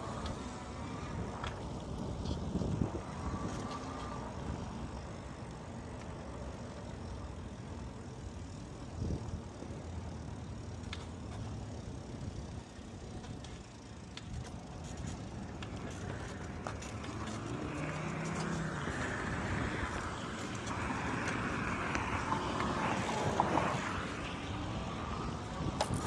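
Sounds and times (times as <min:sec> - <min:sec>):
road and wind rumble: 0:00.0 - 0:26.0.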